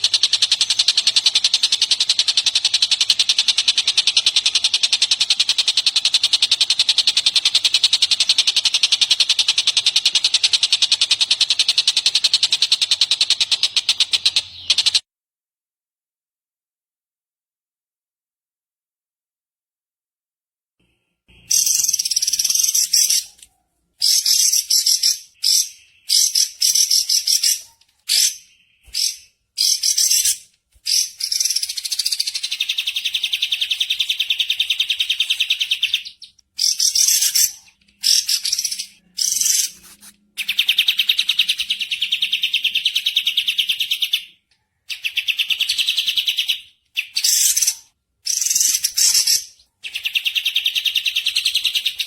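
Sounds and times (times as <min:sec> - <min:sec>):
small birds chattering trills: 0:00.0 - 0:15.0, 0:21.3 - 0:52.0.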